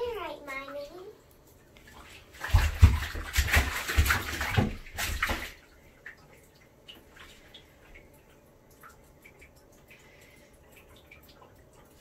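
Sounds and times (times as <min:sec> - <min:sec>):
bathwater splashing in tub: 0:00.0 - 0:12.0.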